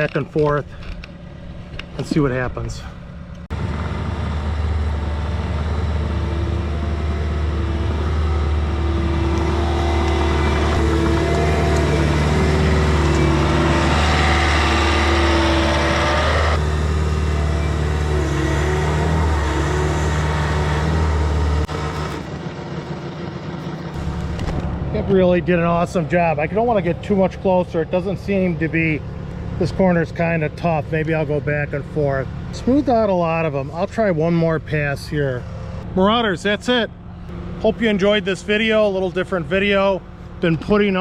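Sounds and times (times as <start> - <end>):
diesel loader engine under load: 3.0 - 41.0.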